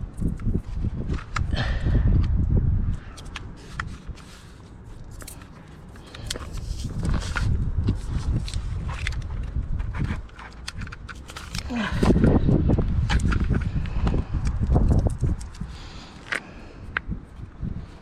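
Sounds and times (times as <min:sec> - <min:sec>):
tape handling clicks and scrapes: 0:00.0 - 0:18.0.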